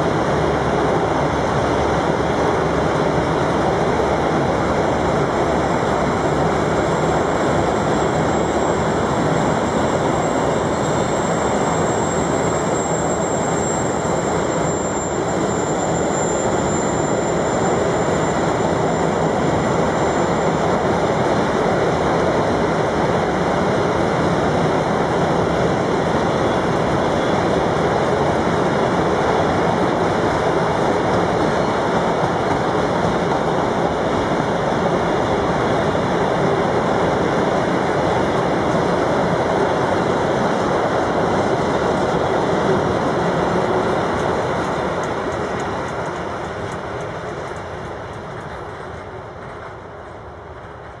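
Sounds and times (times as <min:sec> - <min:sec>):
freight wagon wheels on track: 0:00.0 - 0:51.0.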